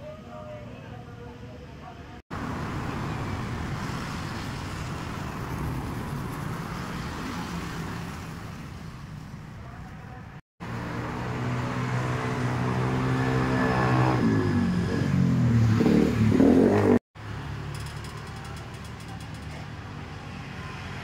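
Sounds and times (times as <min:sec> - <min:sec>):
road traffic rushing: 0:02.3 - 0:21.0.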